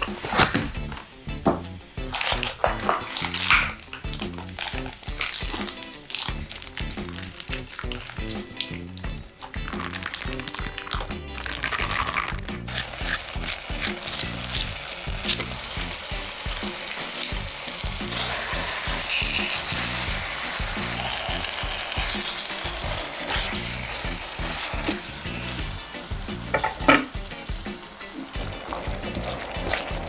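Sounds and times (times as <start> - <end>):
meat sizzling in grill pan: 0.0 - 30.0.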